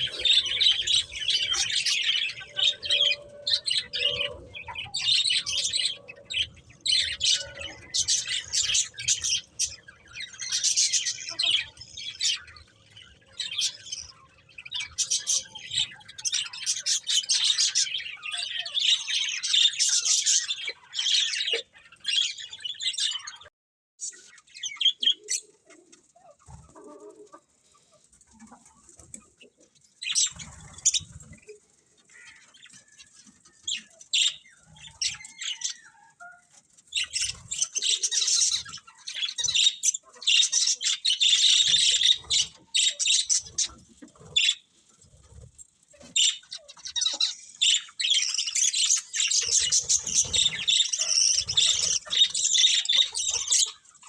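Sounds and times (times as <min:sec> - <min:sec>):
budgerigars chirping and warbling: 0:00.0 - 0:54.0.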